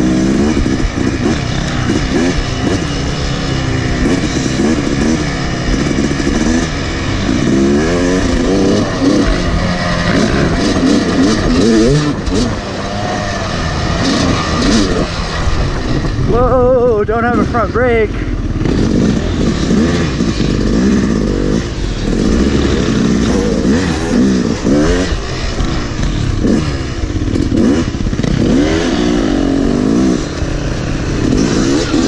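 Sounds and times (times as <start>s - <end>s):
dirt bike engine revving: 0.0s - 32.0s
wind noise: 0.0s - 32.0s.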